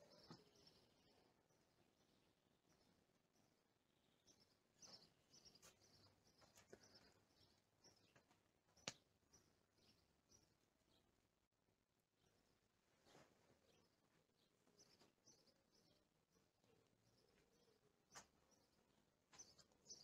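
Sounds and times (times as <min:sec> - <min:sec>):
faint bird chirps: 0:00.0 - 0:11.2, 0:12.2 - 0:20.0.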